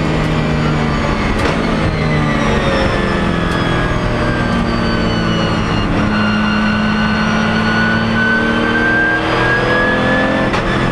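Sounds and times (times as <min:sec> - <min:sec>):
race car engine accelerating: 0:00.0 - 0:10.9.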